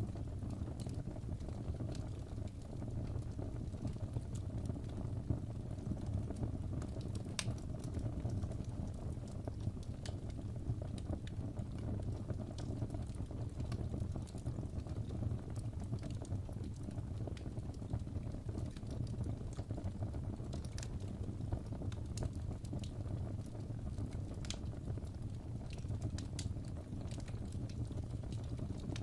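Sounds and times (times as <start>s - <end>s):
fire crackling in a fireplace: 0.0s - 29.0s.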